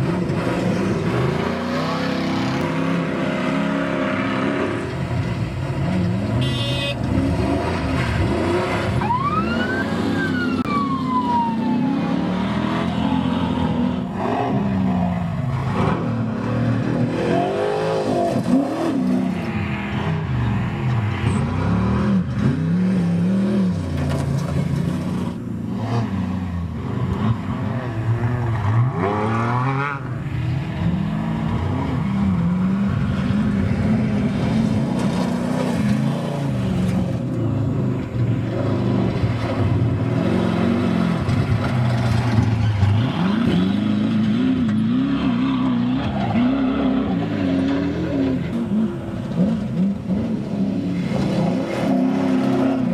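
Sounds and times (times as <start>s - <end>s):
race truck engines revving: 0.0s - 52.9s.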